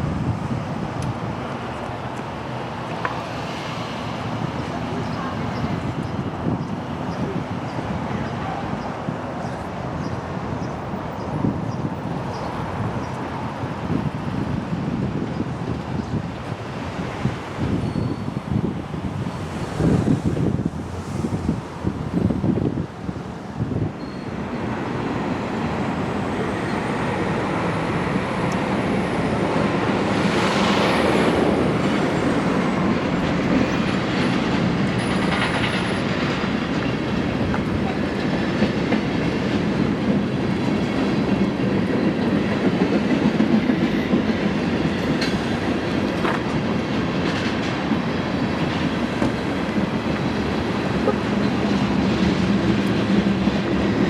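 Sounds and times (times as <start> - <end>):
high squeal of train: 0.0 - 54.0
train railcars rumbling and rattling: 0.0 - 54.0.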